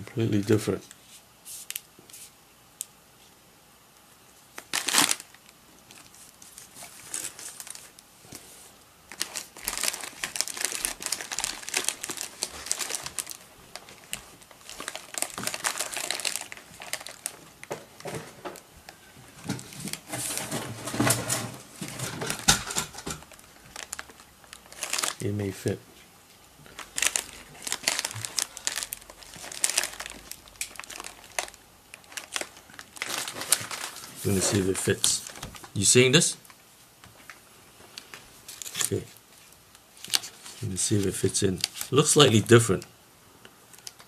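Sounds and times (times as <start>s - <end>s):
plastic packaging crinkling: 4.5s - 8.4s, 9.1s - 25.8s, 26.6s - 36.6s, 37.2s - 42.8s, 43.7s - 44.0s.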